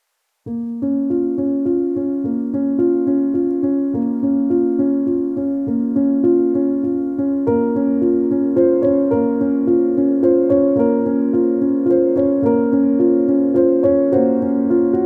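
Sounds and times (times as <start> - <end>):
light keyboard tune: 0.5 - 15.0.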